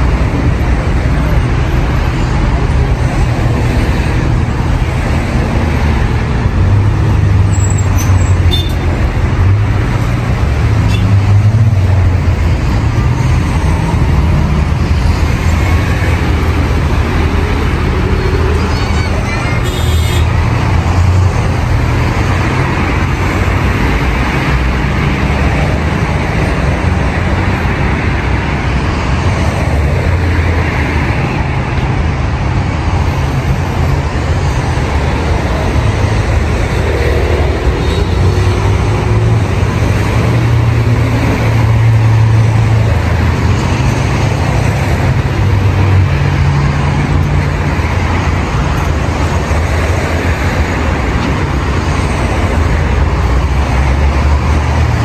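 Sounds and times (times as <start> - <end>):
road traffic rumble: 0.0 - 55.0
vehicles driving past: 0.0 - 55.0.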